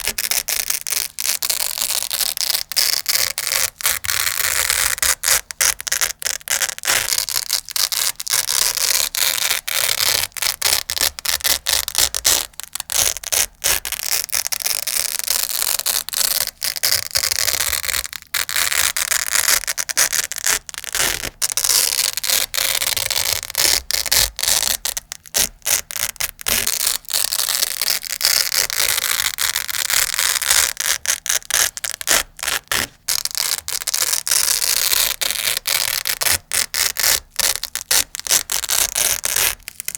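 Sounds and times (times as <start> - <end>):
velcro rasping: 0.0 - 39.9.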